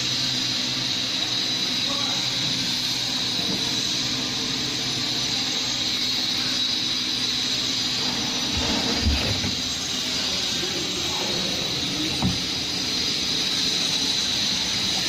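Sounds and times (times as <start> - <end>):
machinery hum and hiss: 0.0 - 15.0.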